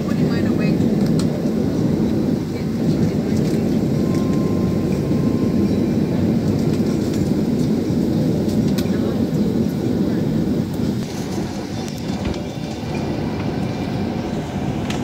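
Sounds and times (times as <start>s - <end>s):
aircraft cabin air-conditioning rumble: 0.0s - 15.0s.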